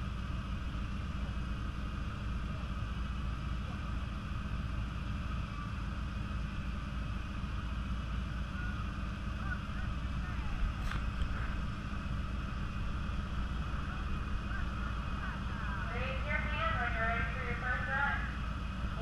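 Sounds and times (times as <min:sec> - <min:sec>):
small engines idling: 0:00.0 - 0:19.0.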